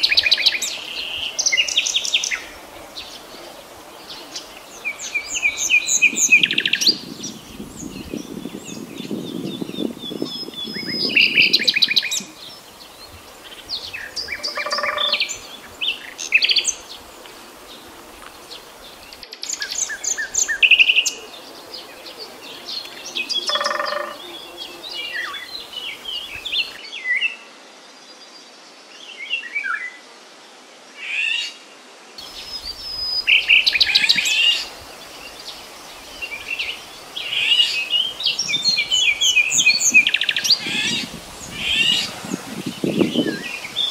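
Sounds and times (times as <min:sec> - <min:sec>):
nightingale singing: 0:00.0 - 0:17.1, 0:18.6 - 0:26.8, 0:32.2 - 0:43.9.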